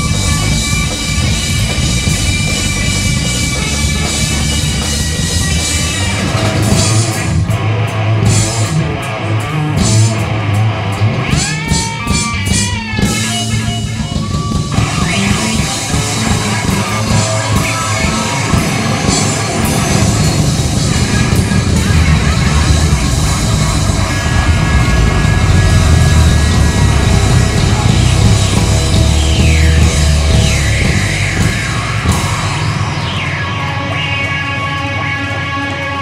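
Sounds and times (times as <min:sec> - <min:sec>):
electric guitar pitch bends: 0:00.0 - 0:36.0
rock band playing: 0:00.0 - 0:36.0.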